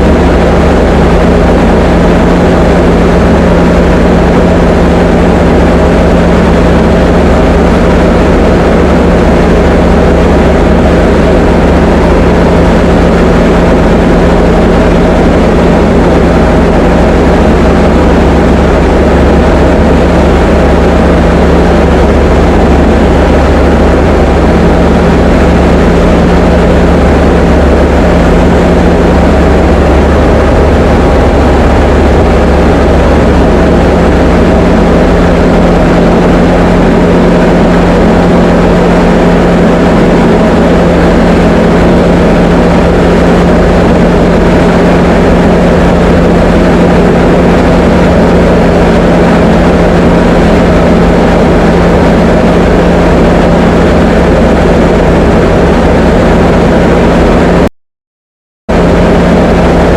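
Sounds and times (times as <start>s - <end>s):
light aircraft engine drone: 0.0s - 57.7s, 58.7s - 59.9s.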